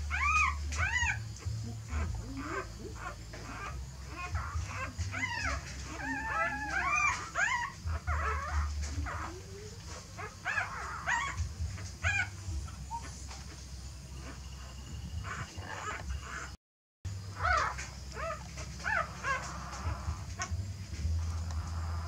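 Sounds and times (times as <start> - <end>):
newborn puppies whimpering: 0.0 - 13.6, 14.2 - 16.6, 17.4 - 22.0.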